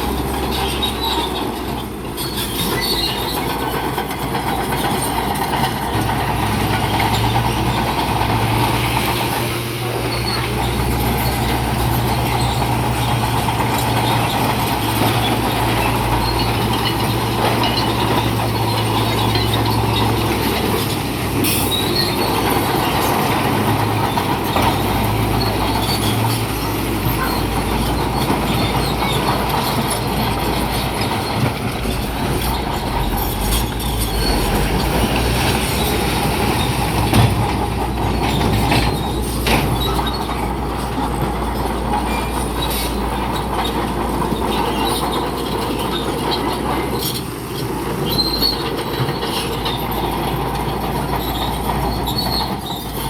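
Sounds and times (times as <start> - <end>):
crawler tracks squealing and clattering: 0.0 - 53.0
diesel engine running: 0.0 - 53.0.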